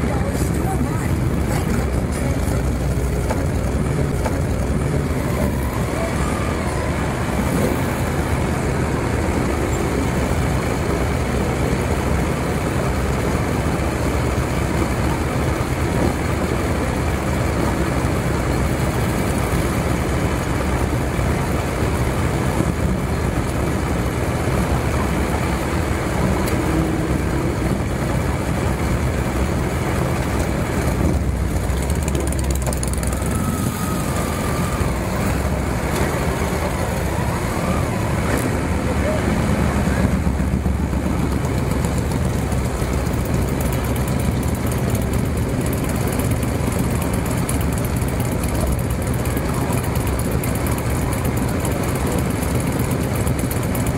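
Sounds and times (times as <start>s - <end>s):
motorcycle engines droning: 0.0s - 53.9s.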